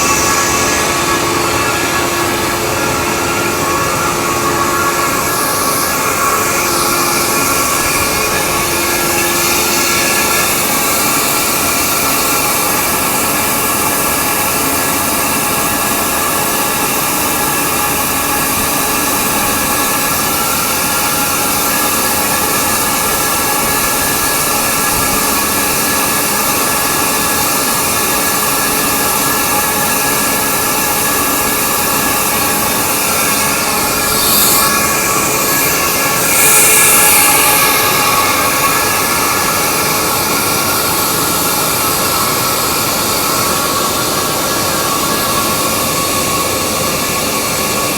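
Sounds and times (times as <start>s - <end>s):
air compressor running: 0.0s - 47.9s.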